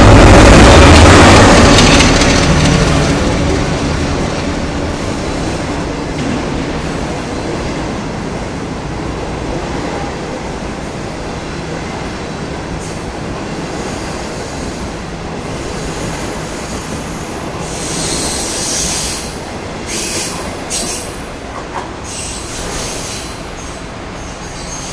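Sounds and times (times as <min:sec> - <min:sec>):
train wheels rumbling on rail: 0:00.0 - 0:24.9.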